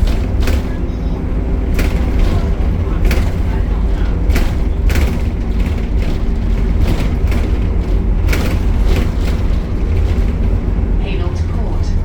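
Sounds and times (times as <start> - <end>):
short rattles and knocks: 0.0 - 11.3
bus engine low rumble: 0.0 - 12.0.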